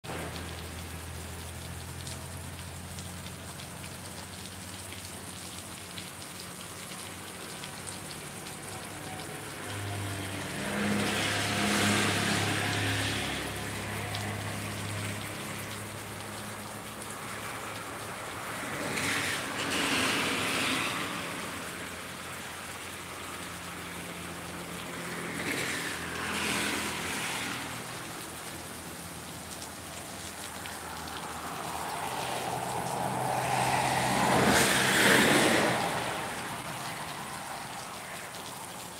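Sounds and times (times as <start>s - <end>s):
steady rain falling: 0.0s - 38.9s
vehicle tyres hissing on wet road: 0.0s - 38.9s.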